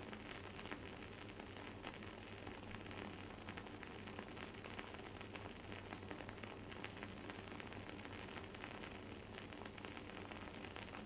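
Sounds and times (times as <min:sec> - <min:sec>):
soft steady hiss: 0:00.0 - 0:11.0.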